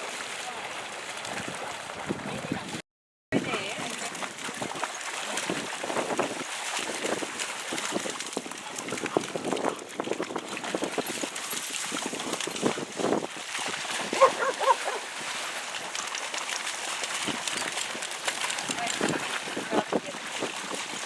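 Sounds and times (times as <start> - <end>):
dogs splashing through muddy water: 0.0 - 2.8, 3.4 - 21.0.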